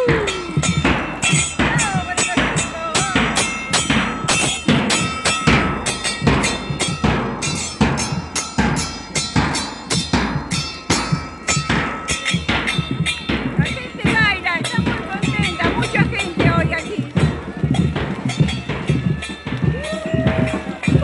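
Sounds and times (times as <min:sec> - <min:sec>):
drum-led music: 0:00.0 - 0:21.0.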